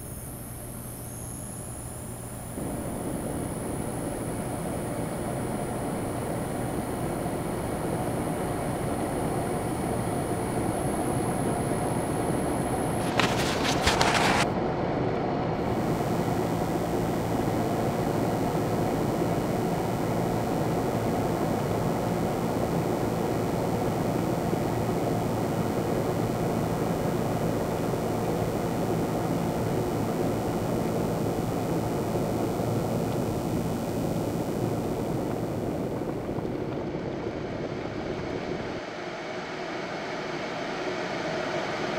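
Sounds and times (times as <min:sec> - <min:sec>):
faint hum: 0:00.0 - 0:14.6, 0:15.5 - 0:41.9
thin high whine: 0:00.0 - 0:14.6, 0:15.6 - 0:36.6.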